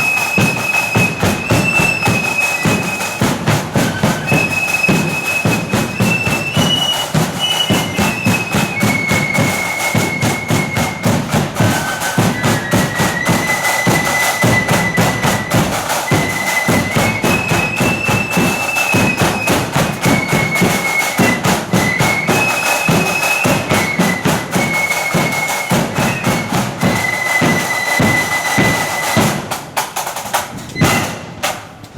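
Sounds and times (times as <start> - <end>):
high flute melody: 0.0 - 29.6, 30.7 - 31.4
snare and bass drumming: 0.0 - 31.8.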